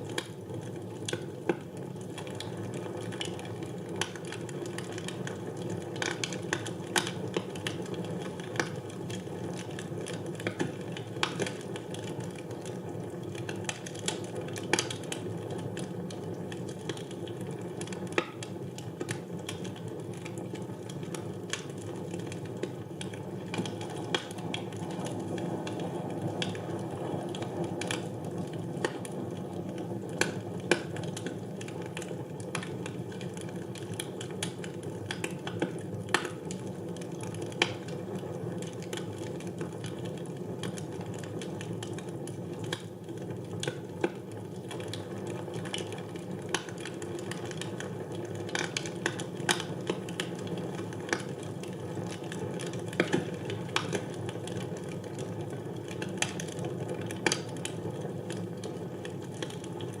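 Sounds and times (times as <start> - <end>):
logs crackling and popping: 0.0 - 60.0.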